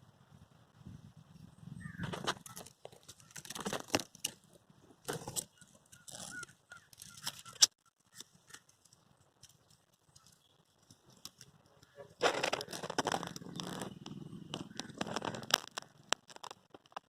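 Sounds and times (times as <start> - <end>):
dry rustling and crackling: 2.0 - 17.0.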